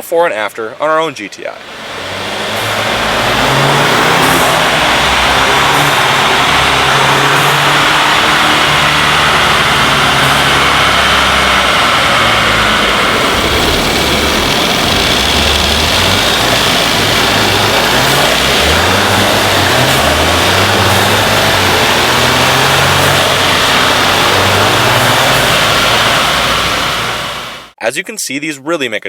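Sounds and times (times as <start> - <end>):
car engine accelerating: 1.6 - 27.8.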